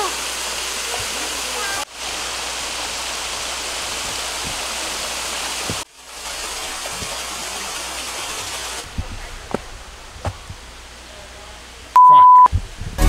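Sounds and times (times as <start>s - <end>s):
water rushing over rocks: 0.0s - 11.1s.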